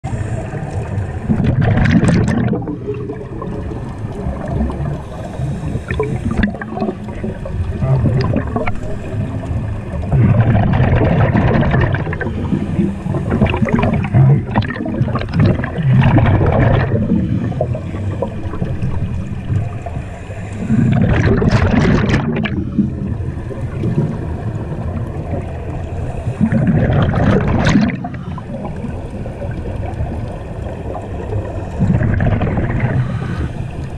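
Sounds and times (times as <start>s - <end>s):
exhaled bubbles rushing: 0.2s - 33.9s.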